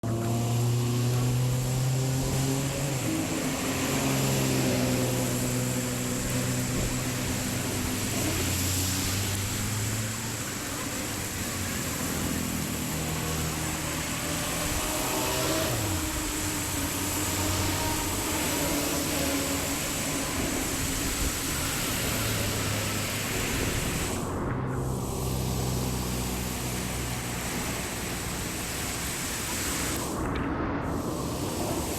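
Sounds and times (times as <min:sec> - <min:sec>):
continuous rushing noise: 0:00.0 - 0:31.9
engine running: 0:00.0 - 0:31.9.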